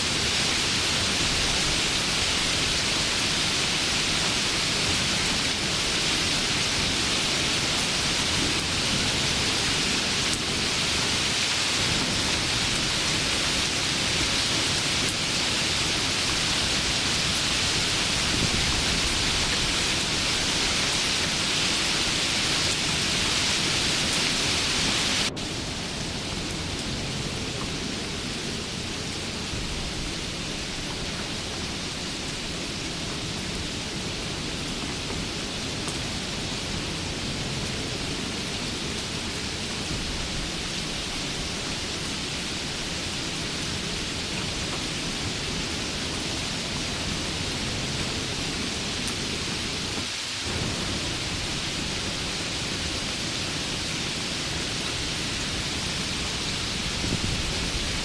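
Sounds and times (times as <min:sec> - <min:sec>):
dense rain hiss: 0:00.0 - 0:58.0
dull rain sound: 0:00.0 - 0:58.0.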